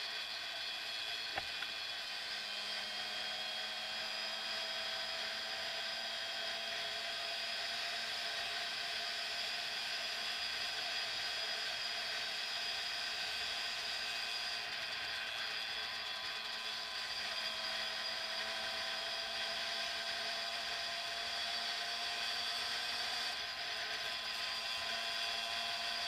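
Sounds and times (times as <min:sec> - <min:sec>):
motorcycle engine whine: 0:00.0 - 0:26.0.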